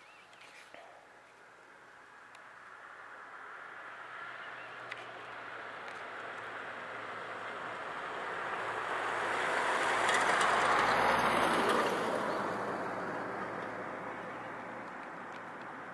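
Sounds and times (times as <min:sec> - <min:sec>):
vehicle tyre noise passing: 0:02.4 - 0:15.9.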